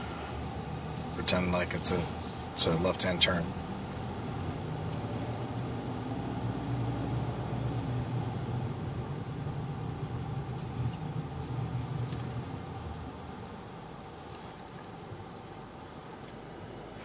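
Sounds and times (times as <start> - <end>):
car engine hum from inside cabin: 0.0 - 17.0.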